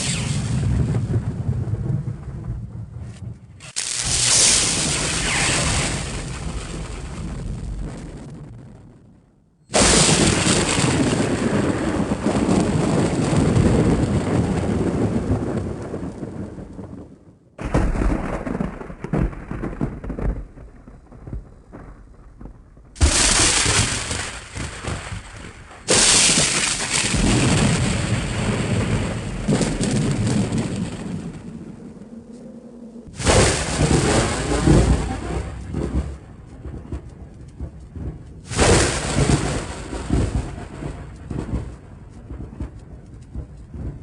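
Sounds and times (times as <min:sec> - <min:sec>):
thunderclaps with long rumble: 0:00.0 - 0:44.0.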